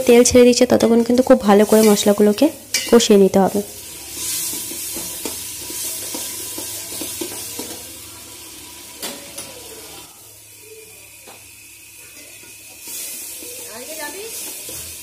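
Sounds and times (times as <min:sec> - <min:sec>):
paste sizzling in oil: 0:00.0 - 0:15.0.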